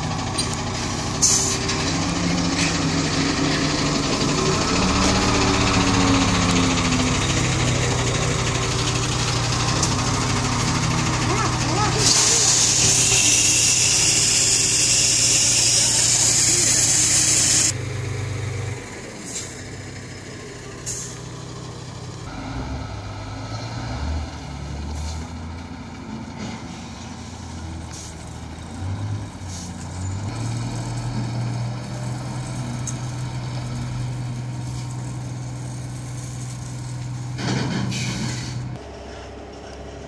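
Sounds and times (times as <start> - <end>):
truck diesel engine running: 0.0 - 40.0.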